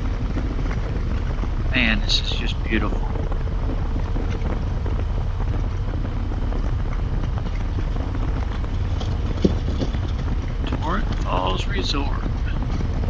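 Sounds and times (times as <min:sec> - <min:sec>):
motorcycle engine cruising: 0:00.0 - 0:13.0
wind buffeting ticks: 0:00.0 - 0:13.0
wind rumble: 0:00.0 - 0:13.0.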